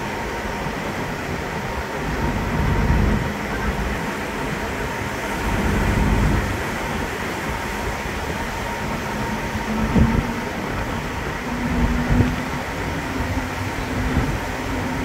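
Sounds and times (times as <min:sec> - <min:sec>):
faint steady whine: 0:00.0 - 0:15.0
ferry machinery rumble: 0:00.0 - 0:15.0
wind buffeting microphone: 0:00.0 - 0:15.0.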